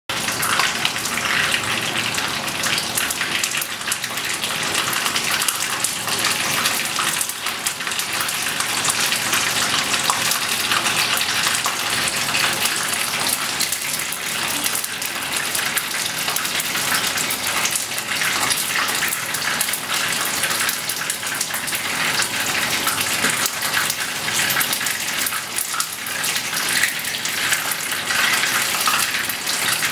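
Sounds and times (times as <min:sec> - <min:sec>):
spring rolls sizzling in oil: 0:00.1 - 0:29.9.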